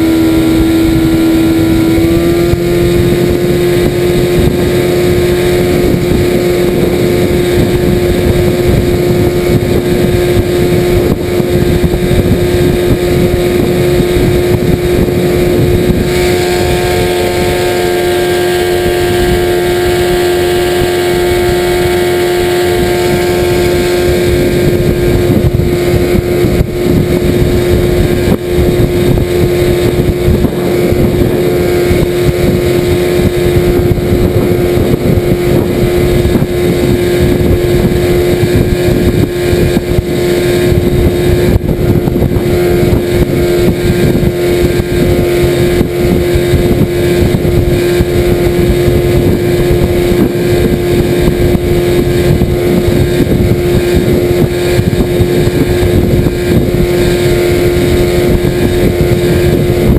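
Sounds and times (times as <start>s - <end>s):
outboard motor running: 0.0s - 59.9s
wind and water rushing: 0.0s - 59.9s.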